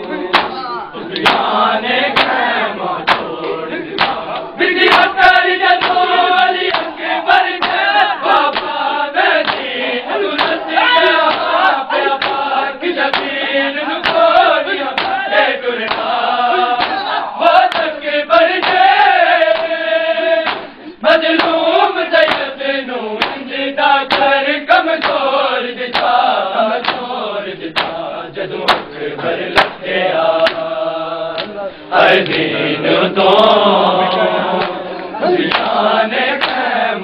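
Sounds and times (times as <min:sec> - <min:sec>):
men chanting in chorus: 0:00.0 - 0:37.0
rhythmic chest beating strikes: 0:00.0 - 0:37.0.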